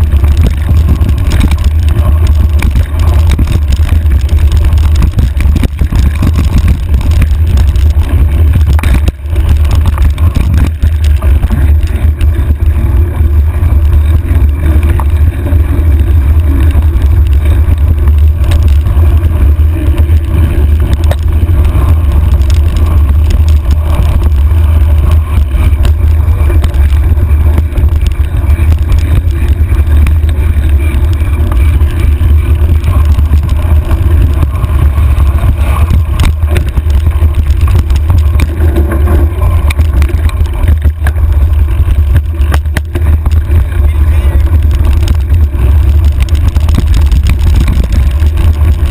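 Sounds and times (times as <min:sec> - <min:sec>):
bike rattling: 0:00.0 - 0:48.9
wind rumbling on microphone: 0:00.0 - 0:48.9.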